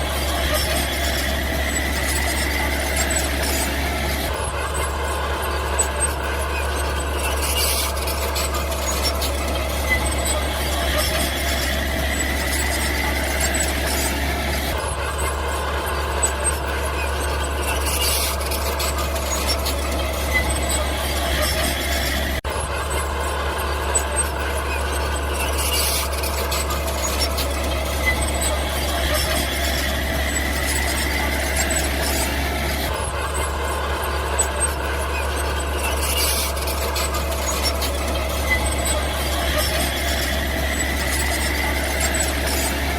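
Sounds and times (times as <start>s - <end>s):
bulldozer engine droning: 0.0s - 42.9s
high squeal: 0.0s - 42.9s.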